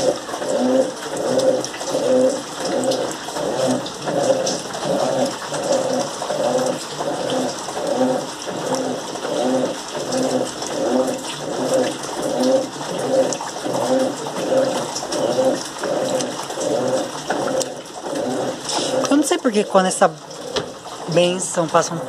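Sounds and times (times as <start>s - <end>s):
washing machine motor humming: 0.0s - 22.0s
water sloshing: 0.0s - 22.0s.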